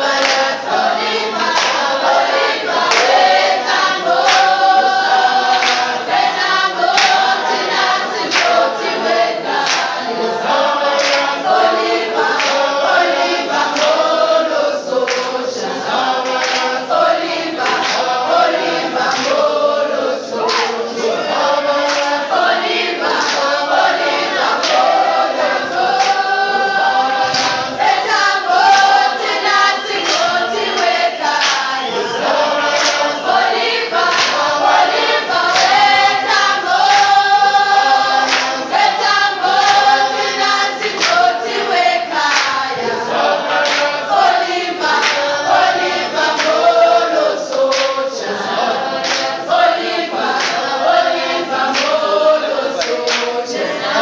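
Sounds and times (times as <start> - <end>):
group of voices chanting: 0.0 - 54.0.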